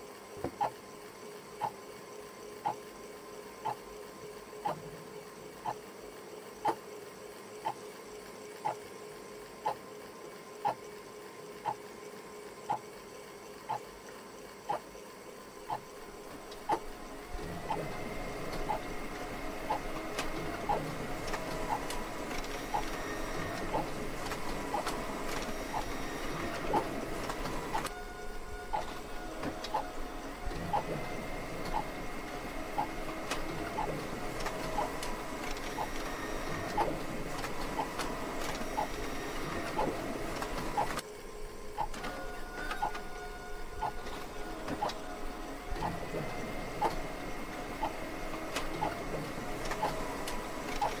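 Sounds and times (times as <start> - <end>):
ceiling fan motor whine: 0.0 - 51.0.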